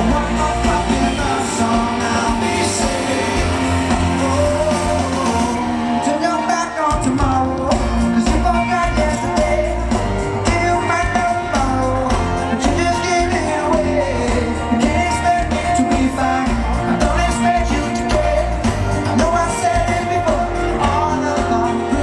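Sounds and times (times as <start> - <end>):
pop song with sung vocal: 0.0 - 22.0.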